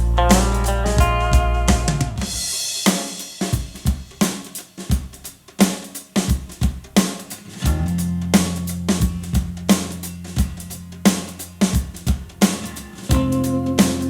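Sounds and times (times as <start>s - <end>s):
drum kit playing: 0.0s - 14.0s.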